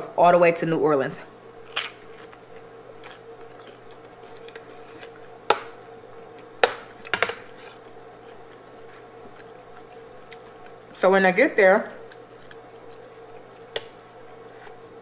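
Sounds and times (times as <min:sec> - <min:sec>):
faint steady hum: 0:00.0 - 0:15.0
person chewing: 0:01.6 - 0:11.0, 0:11.9 - 0:15.0.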